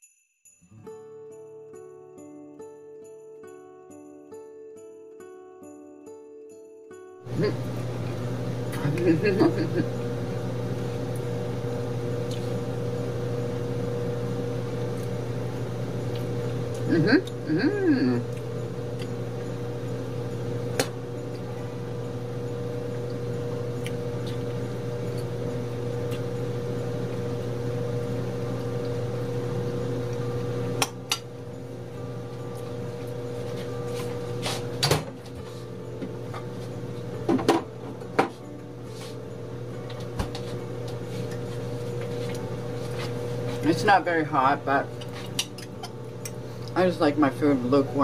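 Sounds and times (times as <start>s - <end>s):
steady low hum: 7.3s - 48.0s.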